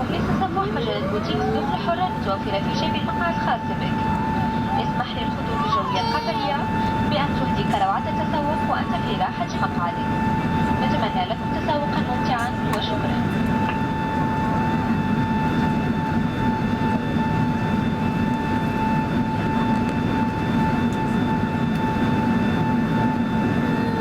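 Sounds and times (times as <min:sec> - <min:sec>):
constant whine: 0:00.0 - 0:24.0
jet engine and airflow rush: 0:00.0 - 0:24.0.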